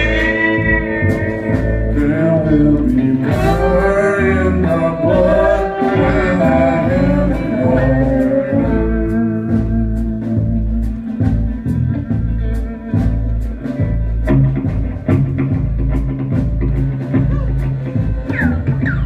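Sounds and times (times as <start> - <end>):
bass: 0.0 - 19.0
guitar: 0.0 - 19.0
steady drum beat: 0.0 - 19.0.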